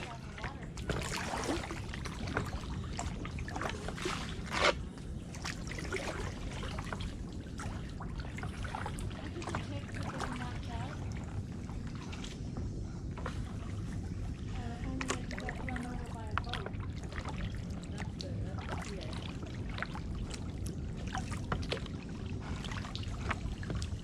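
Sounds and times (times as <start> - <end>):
kayak paddle splashing water: 0.0 - 12.5, 13.2 - 24.0.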